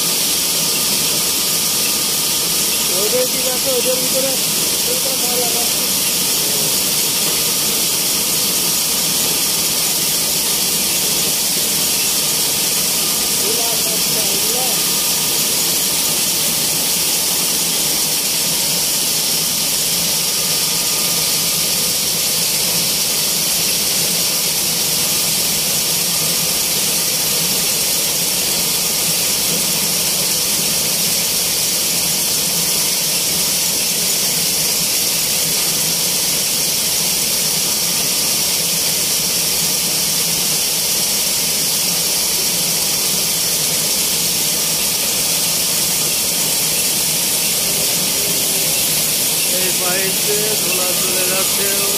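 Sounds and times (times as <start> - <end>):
flour mill machinery hissing: 0.0 - 51.9.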